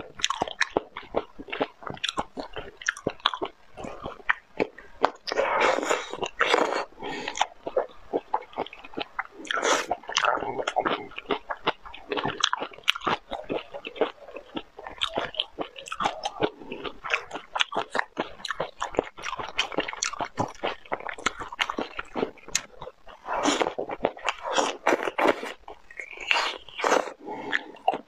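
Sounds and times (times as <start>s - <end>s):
chewing and biting: 0.0s - 28.0s.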